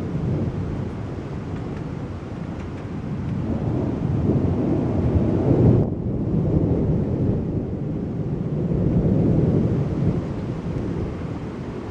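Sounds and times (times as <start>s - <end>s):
rolling thunder: 0.0s - 2.1s, 2.9s - 11.9s.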